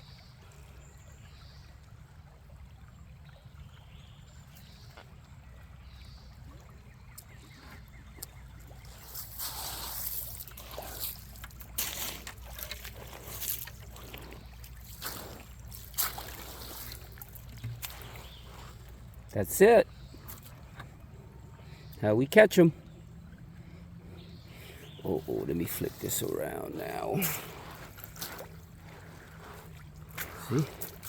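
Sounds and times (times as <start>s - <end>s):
water sloshing and splashing: 0.0s - 31.0s.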